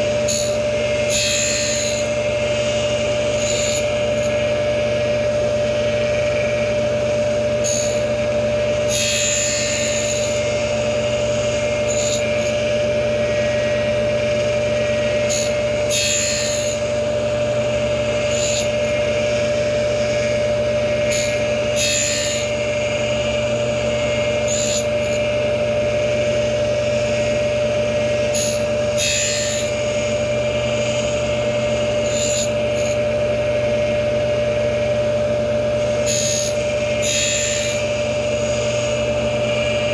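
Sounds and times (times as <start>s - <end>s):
grinder whining: 0.0s - 39.9s
grinding wheel hiss: 0.0s - 39.9s.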